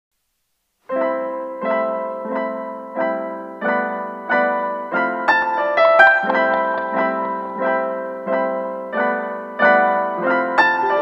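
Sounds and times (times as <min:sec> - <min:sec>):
piano chords: 0:00.9 - 0:11.0.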